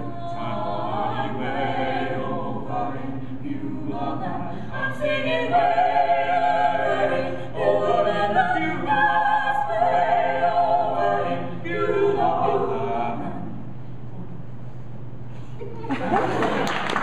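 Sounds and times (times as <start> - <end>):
vocal quartet singing in harmony: 0.0 - 13.7.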